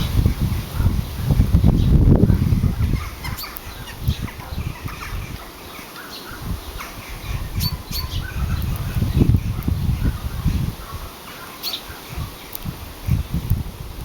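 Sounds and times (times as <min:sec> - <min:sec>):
birds chirping: 0:00.0 - 0:13.4.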